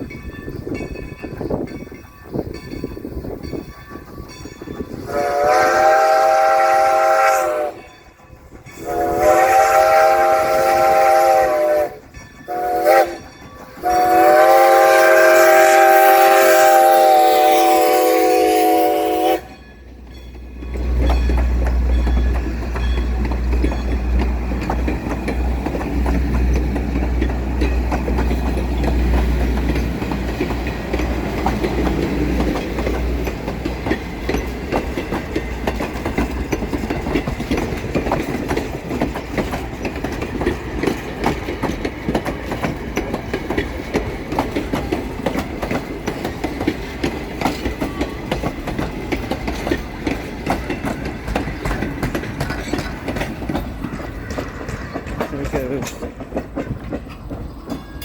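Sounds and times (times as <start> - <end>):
steam locomotive rumble: 0.0 - 58.0
train wheels clicking on rail joints: 0.0 - 58.0.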